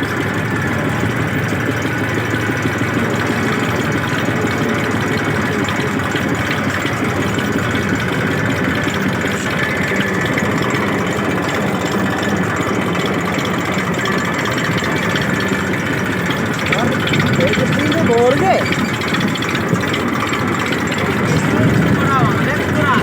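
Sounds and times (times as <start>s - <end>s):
tractor engine at low revs: 0.0s - 23.0s.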